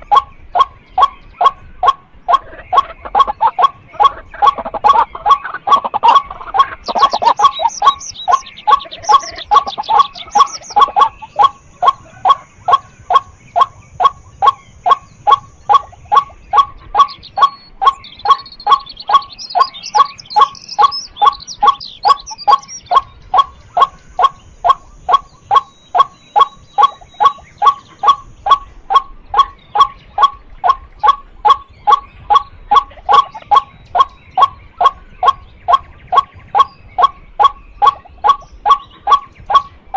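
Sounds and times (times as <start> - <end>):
high chattering bird notes: 0.0 - 39.9
waterhen calling: 0.0 - 39.9.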